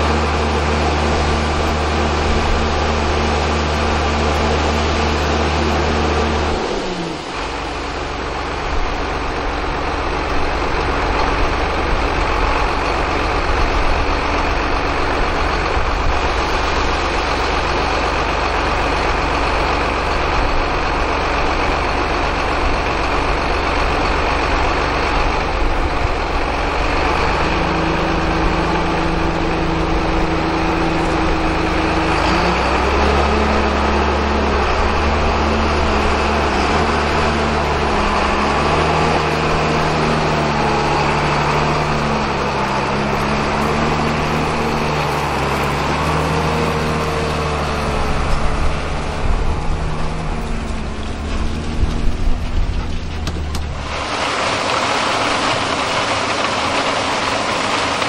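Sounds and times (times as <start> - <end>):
auger rushing noise: 0.0 - 58.0
tractor diesel engine running: 0.0 - 58.0.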